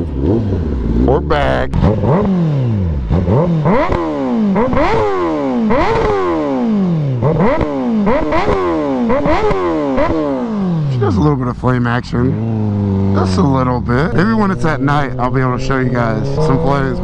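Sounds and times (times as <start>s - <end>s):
exhaust crackles: 0.0s - 17.0s
motorcycle engine revving: 0.0s - 17.0s.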